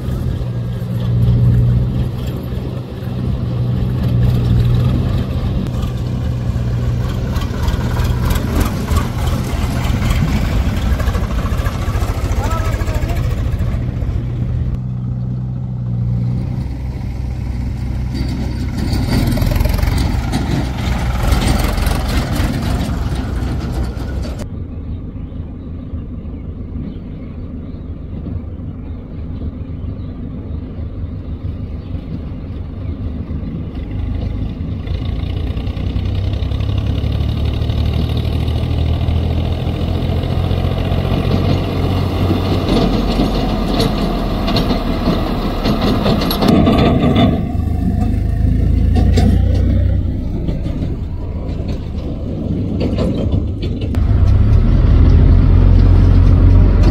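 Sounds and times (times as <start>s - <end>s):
diesel engines running: 0.0s - 56.9s.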